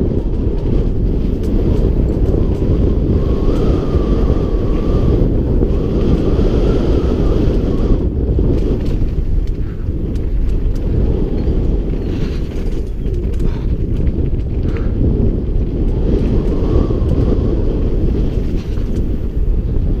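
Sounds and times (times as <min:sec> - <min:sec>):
bike clicks and rattles: 0:00.0 - 0:20.0
tyres on loose gravel: 0:00.0 - 0:20.0
wind buffeting microphone: 0:00.0 - 0:20.0.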